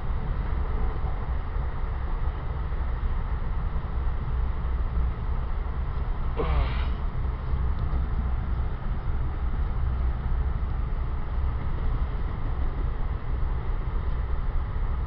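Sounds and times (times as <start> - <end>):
rail car rumble: 0.0 - 15.0.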